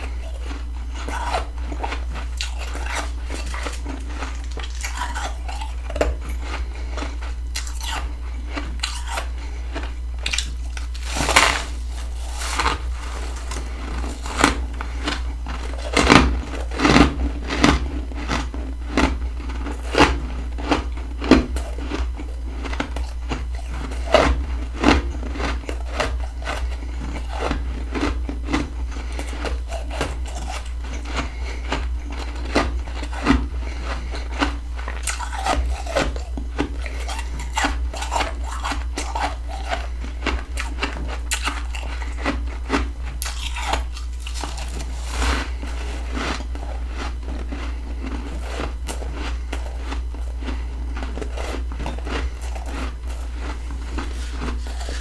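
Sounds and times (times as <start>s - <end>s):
chewing crunchy frost: 0.0s - 55.0s
steady low hum: 0.0s - 55.0s.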